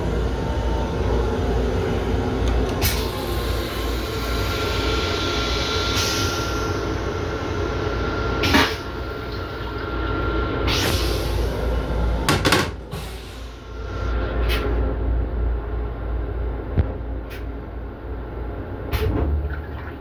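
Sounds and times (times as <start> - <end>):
railcar interior rumble: 0.0 - 19.5.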